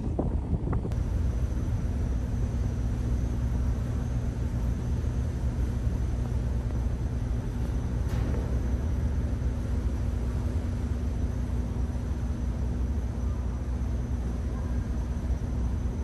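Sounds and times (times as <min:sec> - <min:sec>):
ferry engines droning: 0:00.0 - 0:16.0
faint high whine: 0:00.9 - 0:16.0.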